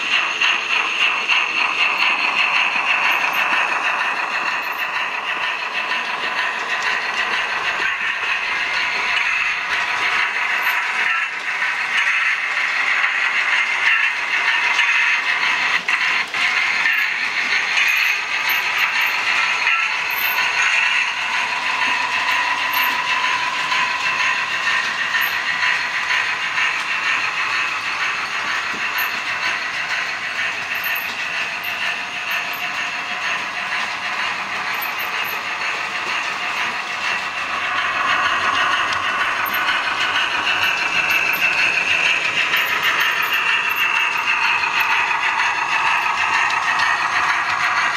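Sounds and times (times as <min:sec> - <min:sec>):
model train motors whirring: 0:00.0 - 0:47.9.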